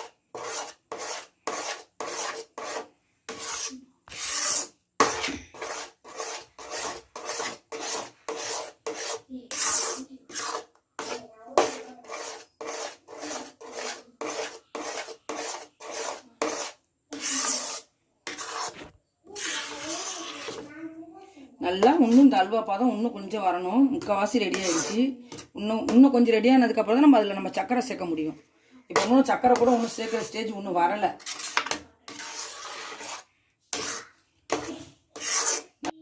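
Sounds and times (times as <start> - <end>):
ladle scraping a pan: 0.0 - 20.7, 21.8 - 22.8, 23.9 - 26.0, 28.9 - 36.0.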